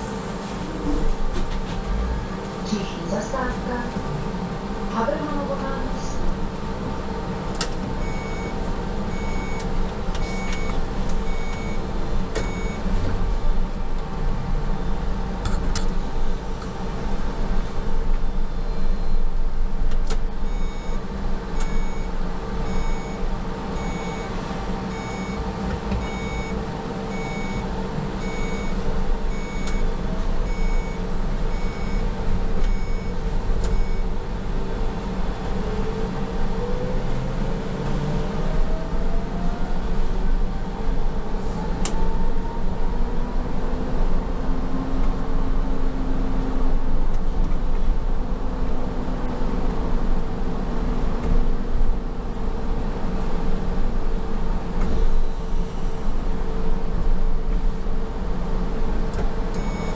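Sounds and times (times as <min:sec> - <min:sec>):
road noise: 0:00.0 - 0:59.9
trolleybus electric hum: 0:00.0 - 0:59.9.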